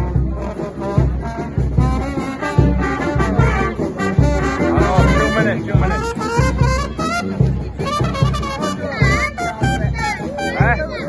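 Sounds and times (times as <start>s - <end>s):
brass band playing: 0.0s - 11.0s.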